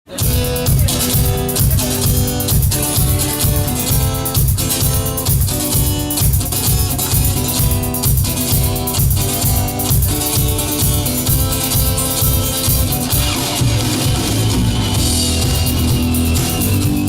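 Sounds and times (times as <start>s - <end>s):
drum kit beat: 0.0s - 17.0s
guitar: 0.0s - 17.0s.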